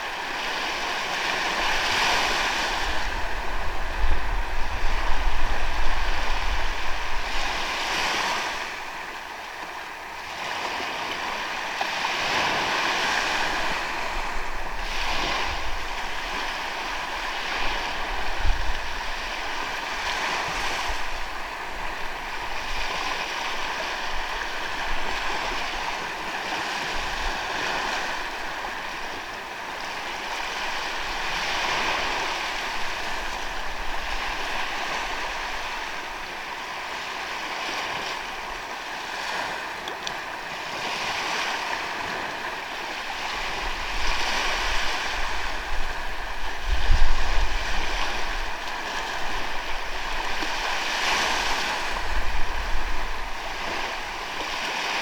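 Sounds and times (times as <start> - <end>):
waves washing onto sandy beach: 0.0 - 55.0.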